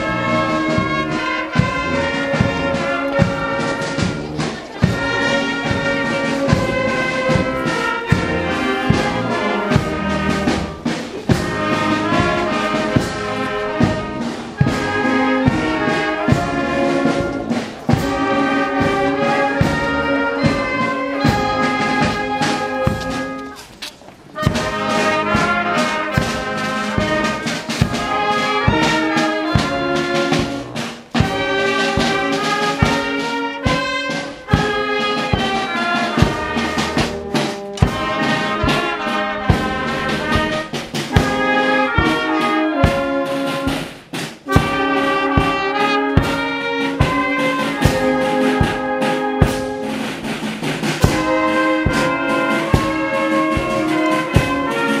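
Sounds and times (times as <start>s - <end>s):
marching brass band playing: 0.0s - 55.0s.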